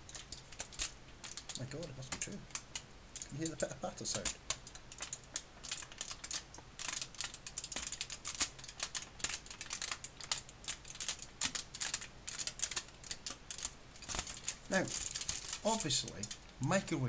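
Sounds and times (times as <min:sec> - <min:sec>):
aluminium foil crackling: 0:00.0 - 0:16.6.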